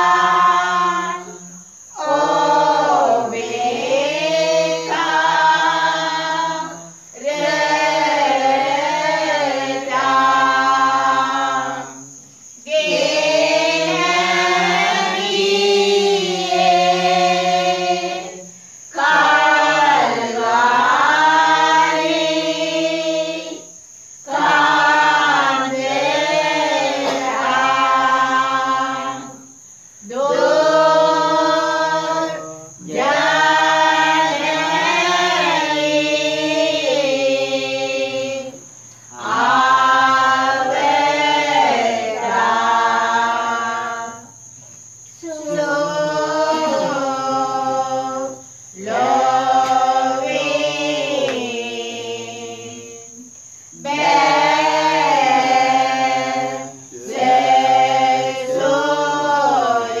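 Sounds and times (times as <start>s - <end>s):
group singing hymns unaccompanied: 0.0s - 60.0s.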